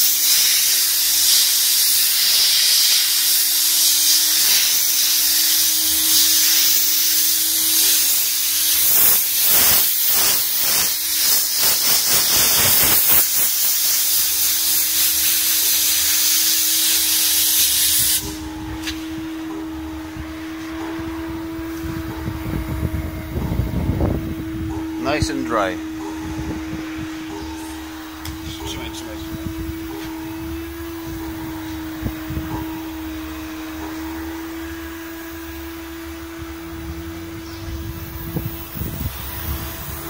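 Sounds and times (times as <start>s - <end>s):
steam cleaner hissing: 0.0s - 40.0s
steady hum: 3.2s - 40.0s.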